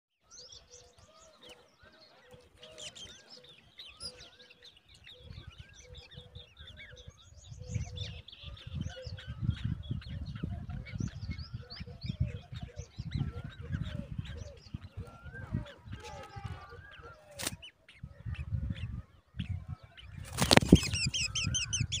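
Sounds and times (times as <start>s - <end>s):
birds chirping: 0.2s - 22.0s.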